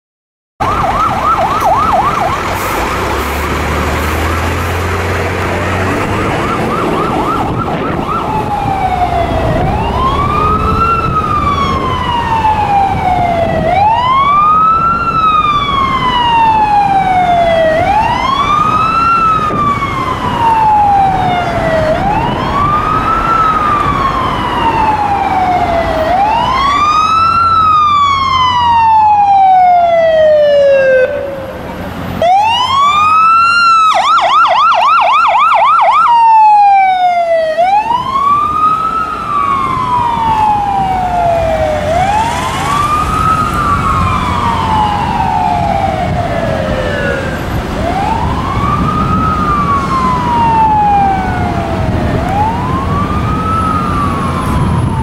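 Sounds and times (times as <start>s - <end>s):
diesel engine rumbling: 0.6s - 55.0s
fire engine siren: 0.6s - 55.0s.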